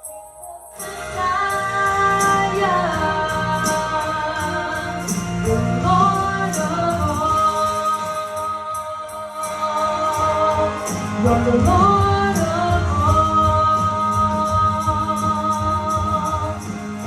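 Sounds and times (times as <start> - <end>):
bass: 0.0 - 17.0
high percussion beat: 0.0 - 17.0
voices singing gospel: 0.6 - 17.0.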